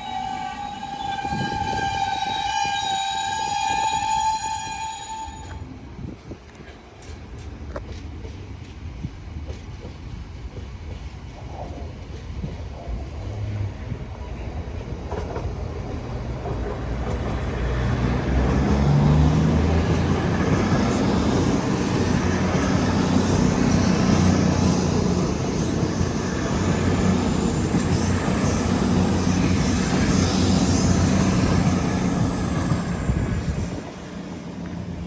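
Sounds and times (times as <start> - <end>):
train passing close by: 0.0 - 35.0.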